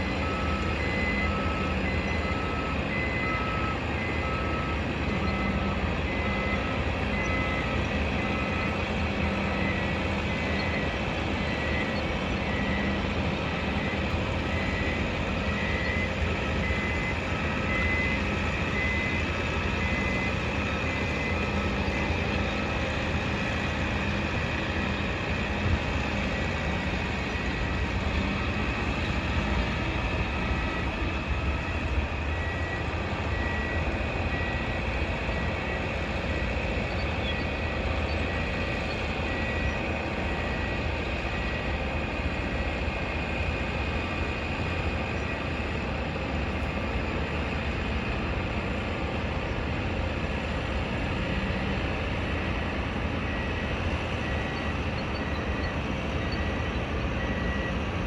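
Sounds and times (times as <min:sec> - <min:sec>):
faint high-pitched beeping: 0:00.0 - 0:42.1, 0:53.2 - 0:58.0
heavy machinery rumble: 0:00.0 - 0:58.0
traffic: 0:00.0 - 0:58.0.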